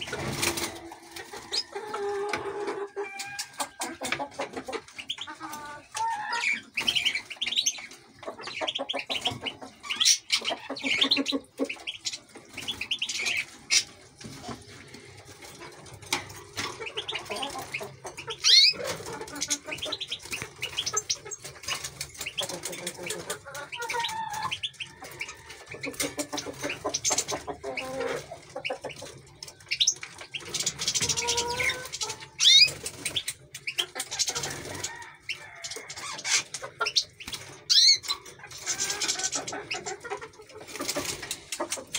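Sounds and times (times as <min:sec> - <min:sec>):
canaries chirping: 0:00.0 - 0:41.9.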